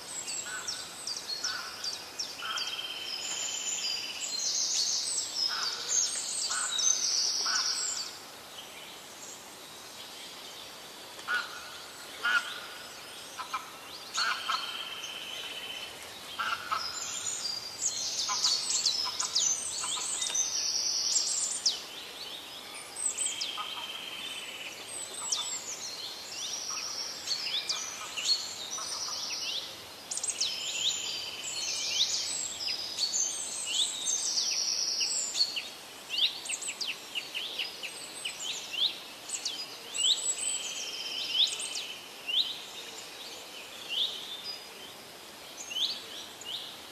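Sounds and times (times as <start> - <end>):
birds chirping and singing: 0.0 - 44.9
faint steady hiss: 0.0 - 46.9.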